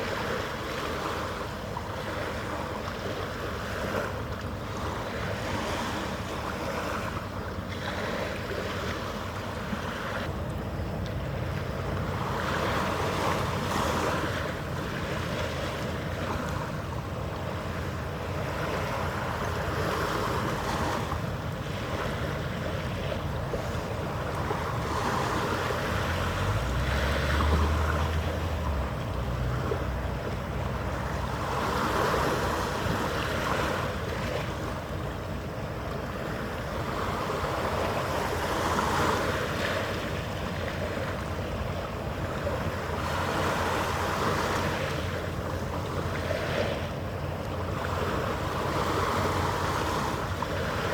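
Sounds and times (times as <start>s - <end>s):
faint steady hum: 0.0s - 50.9s
water washing in swells: 0.0s - 50.9s.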